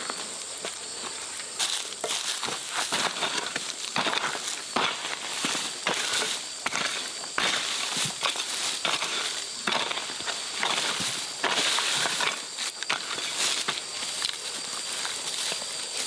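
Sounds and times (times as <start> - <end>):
crunching of dry plants: 0.0 - 16.0.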